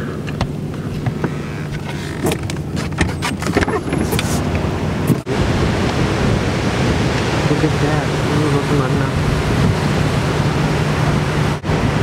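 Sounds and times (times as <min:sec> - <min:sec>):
broad rushing noise: 0:00.0 - 0:12.0
car interior low hum: 0:00.0 - 0:12.0.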